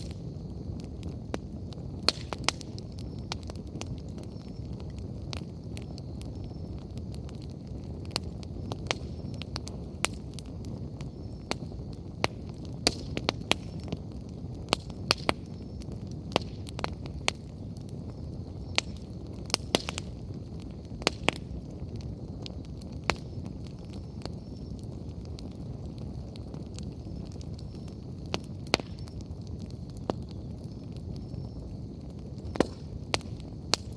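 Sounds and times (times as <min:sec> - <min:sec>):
firewood crackling and popping: 0:00.0 - 0:33.9
low rush of flames: 0:00.0 - 0:33.9.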